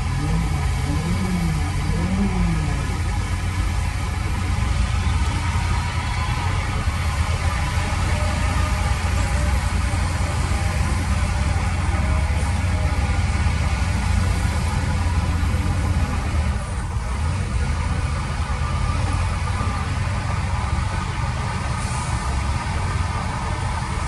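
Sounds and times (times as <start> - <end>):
heavy diesel engine rumbling: 0.0 - 24.0.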